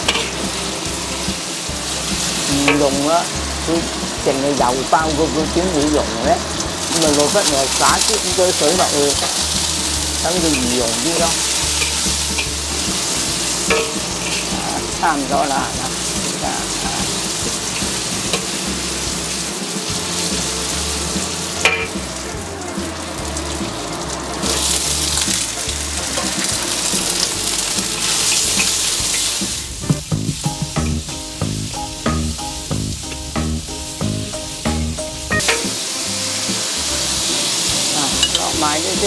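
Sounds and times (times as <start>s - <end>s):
metal spatula scraping wok: 0.0s - 30.0s, 35.3s - 39.0s
food sizzling in hot oil: 0.0s - 39.0s.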